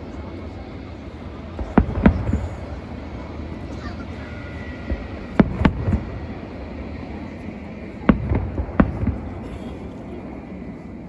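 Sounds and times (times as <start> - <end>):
steady low rumble: 0.0 - 11.0
fireworks bangs: 1.4 - 10.6.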